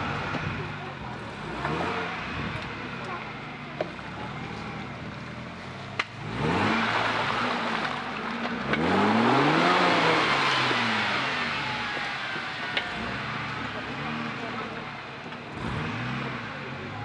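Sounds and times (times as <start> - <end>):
engine revving hard: 0.0 - 17.0.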